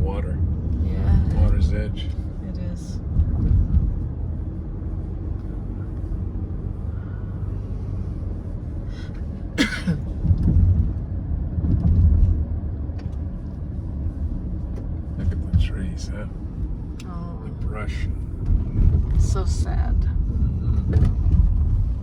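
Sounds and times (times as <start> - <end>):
car road noise and rumble: 0.0 - 22.0.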